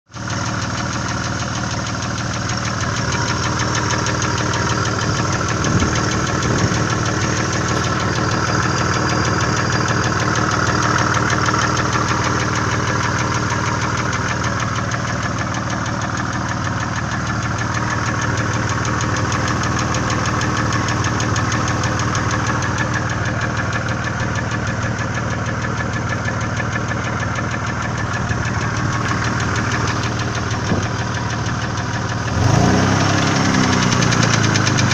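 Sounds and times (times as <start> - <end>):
car engine running: 0.1 - 34.9
fast engine ticking: 0.1 - 34.9.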